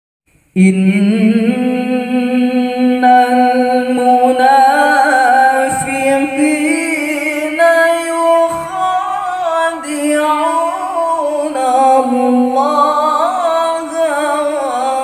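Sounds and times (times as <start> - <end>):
boy reciting melodically: 0.6 - 15.0.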